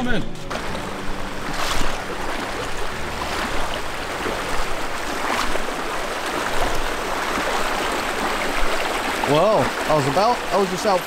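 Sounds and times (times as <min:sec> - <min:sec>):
river water flowing: 0:00.3 - 0:11.0
small water splashes: 0:00.5 - 0:11.0.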